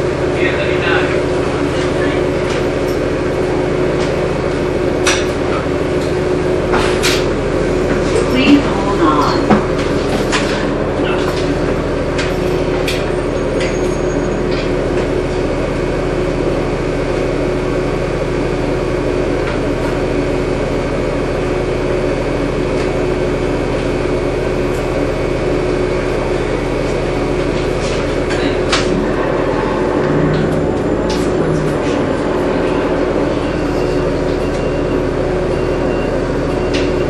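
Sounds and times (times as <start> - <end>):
bus drivetrain drone: 0.0 - 37.0.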